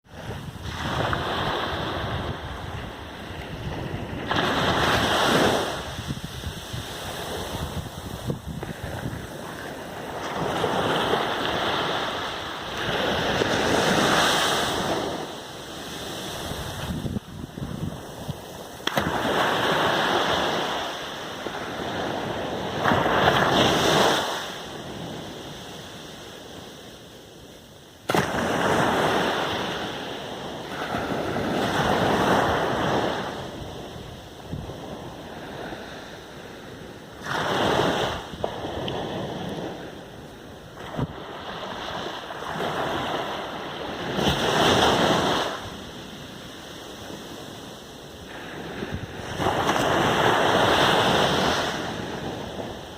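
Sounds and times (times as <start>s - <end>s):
waves breaking on a beach: 0.0s - 52.9s.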